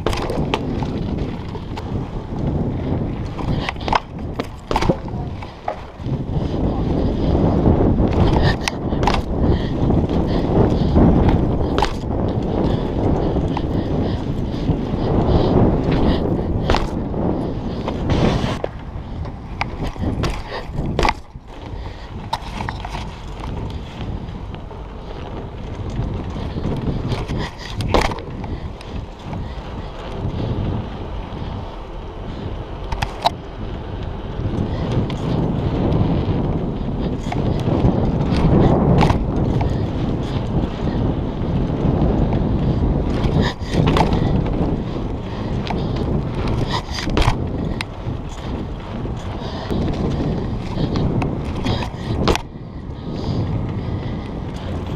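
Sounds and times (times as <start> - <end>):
bike clicks and knocks: 0.0 - 54.9
bike tyre rumble on concrete: 0.0 - 54.9
wind buffeting microphone: 0.0 - 54.9.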